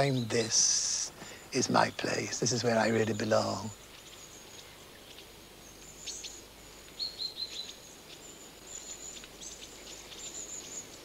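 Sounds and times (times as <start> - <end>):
faint steady hiss: 0.0 - 11.0
songbirds chirping and trilling: 0.0 - 11.0.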